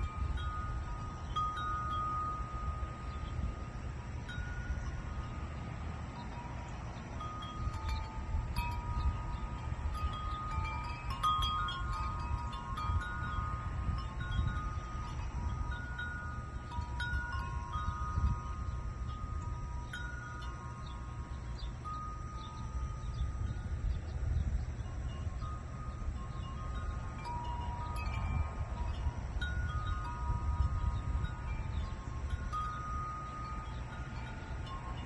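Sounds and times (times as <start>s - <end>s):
wind chimes ringing: 0.0s - 35.0s.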